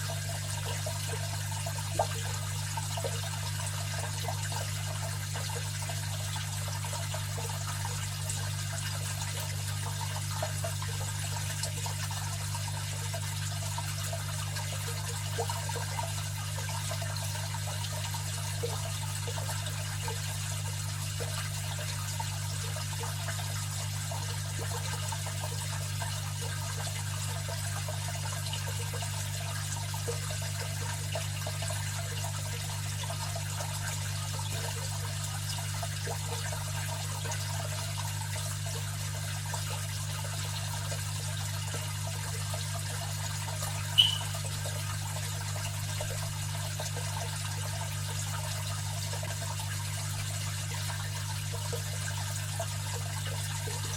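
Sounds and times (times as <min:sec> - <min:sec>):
pump motor hum: 0:00.0 - 0:53.9
water trickling and splashing: 0:00.0 - 0:53.9.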